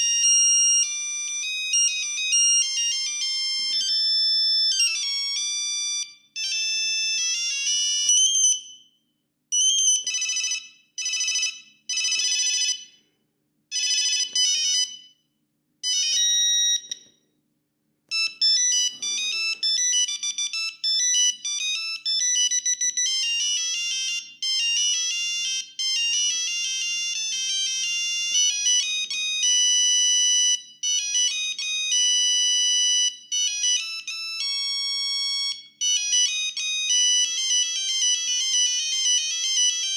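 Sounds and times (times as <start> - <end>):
monophonic phone ringtone: 0.0 - 17.2, 18.1 - 39.9.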